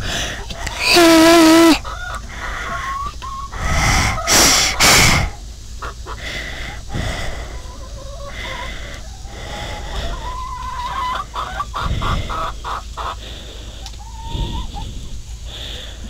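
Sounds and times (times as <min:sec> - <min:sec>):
chicken clucking: 0:00.4 - 0:04.7, 0:05.3 - 0:15.4
chicken squawking: 0:00.4 - 0:13.2, 0:13.8 - 0:14.9.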